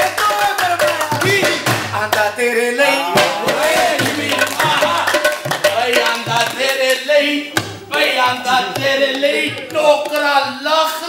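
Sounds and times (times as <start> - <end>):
hand drum beating: 0.0 - 10.7
men singing: 0.0 - 11.0.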